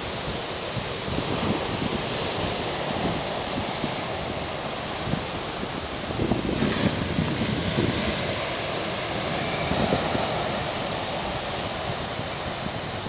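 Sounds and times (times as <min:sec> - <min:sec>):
hiss of breaking surf: 0:00.0 - 0:13.0
wind gusting over microphone: 0:00.0 - 0:13.0.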